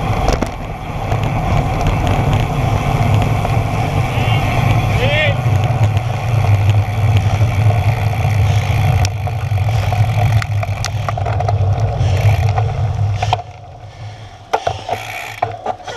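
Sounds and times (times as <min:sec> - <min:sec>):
wind rushing over microphone: 0:00.0 - 0:13.9
road noise: 0:00.0 - 0:15.9.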